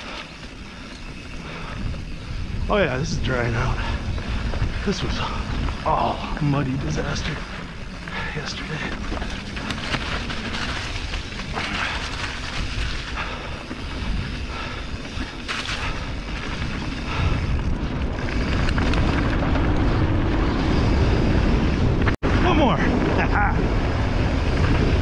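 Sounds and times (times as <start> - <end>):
bike tyres crunching on gravel: 0.0 - 22.0
bike rattling over bumps: 0.0 - 25.0
wind buffeting microphone: 0.0 - 25.0.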